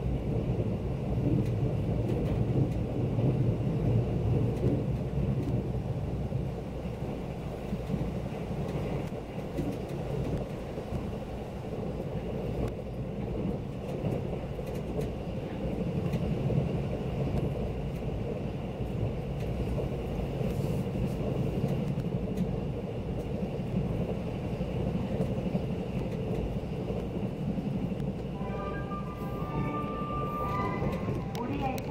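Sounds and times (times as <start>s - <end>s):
train rumble inside cabin: 0.0s - 31.9s.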